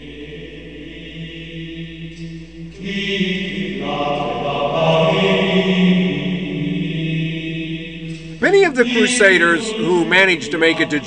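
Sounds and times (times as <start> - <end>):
voices chanting: 0.0 - 11.0.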